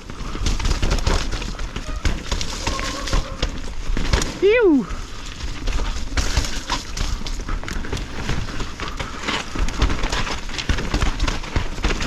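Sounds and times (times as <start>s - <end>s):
bike knocking and rattling: 0.0s - 12.0s
tyre noise on dirt: 0.0s - 12.0s.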